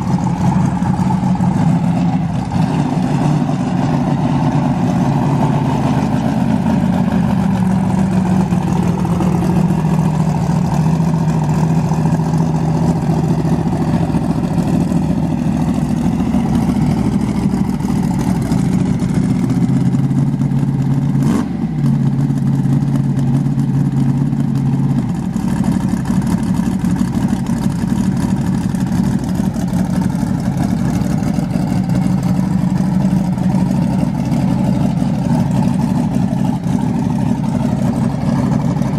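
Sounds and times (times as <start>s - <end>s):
car engines running: 0.0s - 38.9s.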